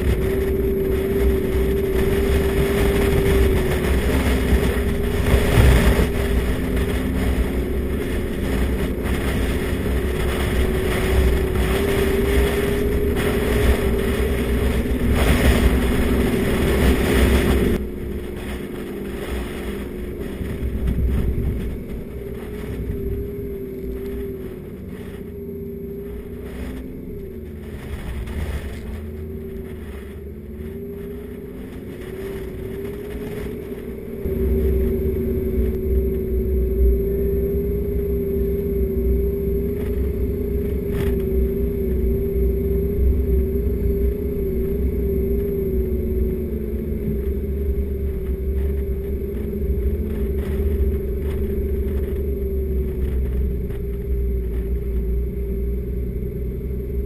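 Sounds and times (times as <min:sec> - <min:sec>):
low rumble of driving on sand: 0:00.0 - 0:57.0
vehicle engine droning: 0:00.0 - 0:57.0.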